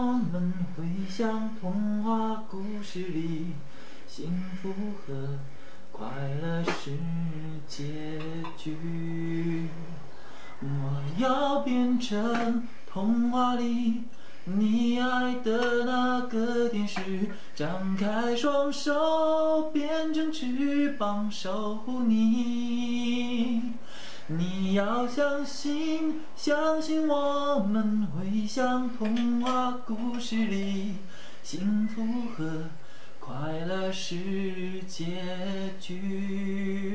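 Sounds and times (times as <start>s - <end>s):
man singing a slow love song: 0.0s - 36.9s.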